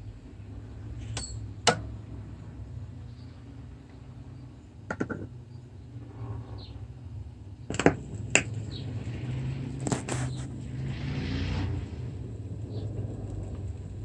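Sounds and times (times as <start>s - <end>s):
record player rumble and hum: 0.0s - 14.0s.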